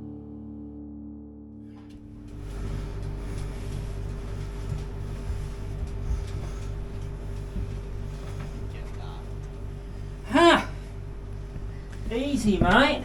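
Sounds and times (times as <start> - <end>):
pulsing low rumble: 1.5 - 13.0
steady mechanical hum: 1.9 - 13.0.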